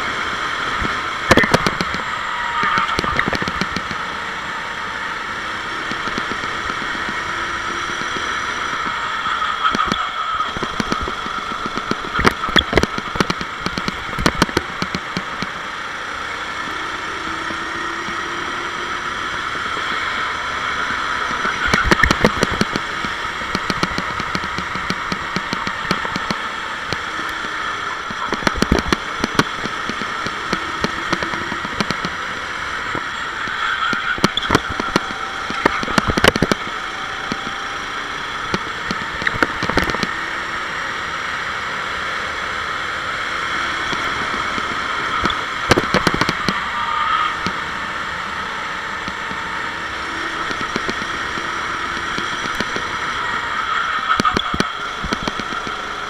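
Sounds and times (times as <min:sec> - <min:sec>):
sharp knocks and crackles: 0:00.0 - 0:04.2, 0:05.6 - 0:15.7, 0:17.4 - 0:37.6, 0:38.2 - 0:40.3, 0:43.8 - 0:47.7, 0:49.0 - 0:56.0
kart engine running hard: 0:00.0 - 0:56.0.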